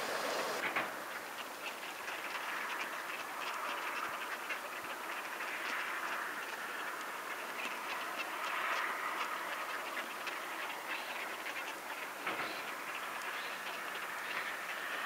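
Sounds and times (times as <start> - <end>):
swans honking: 0.0 - 15.0.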